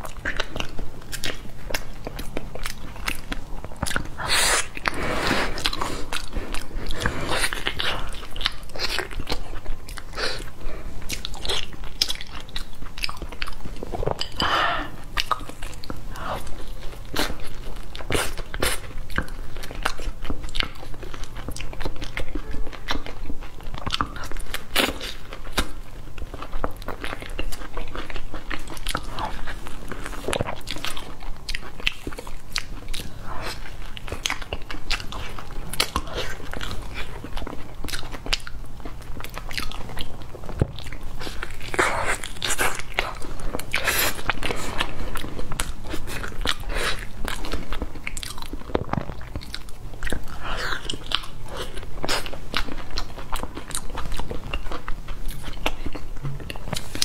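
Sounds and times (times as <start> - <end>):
person chewing with mouth clicks: 0.0 - 57.0.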